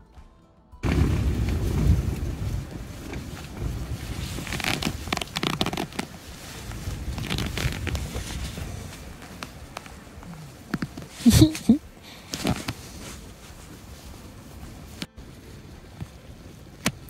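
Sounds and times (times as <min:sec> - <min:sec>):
low rumble: 0:00.8 - 0:16.8
nylon fabric rustling: 0:00.8 - 0:17.0.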